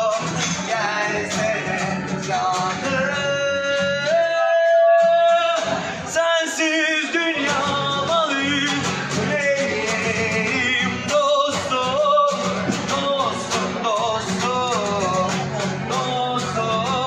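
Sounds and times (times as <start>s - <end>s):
man singing with vibrato: 0.0s - 17.0s.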